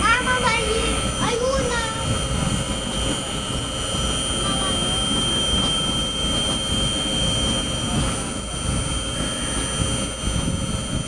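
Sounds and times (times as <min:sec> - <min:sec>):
ride low rumble: 0:00.0 - 0:11.0
wind buffeting microphone: 0:00.0 - 0:11.0.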